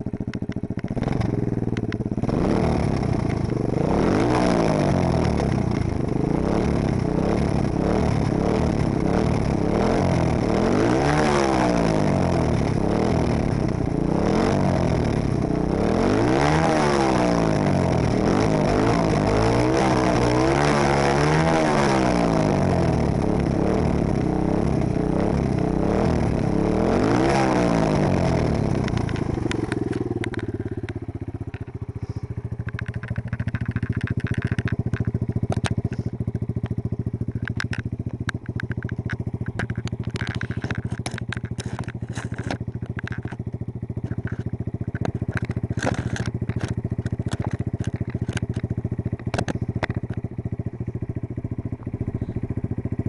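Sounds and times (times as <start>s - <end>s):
motorcycle engine revving and idling: 0.0s - 53.0s
sharp clicks and crackles: 0.0s - 53.0s.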